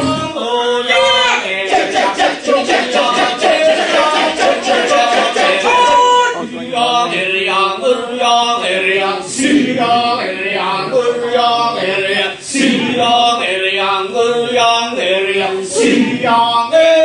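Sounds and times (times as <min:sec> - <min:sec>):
fast rhythmic chanting: 0:00.0 - 0:17.0
male chorus singing melody: 0:00.0 - 0:17.0.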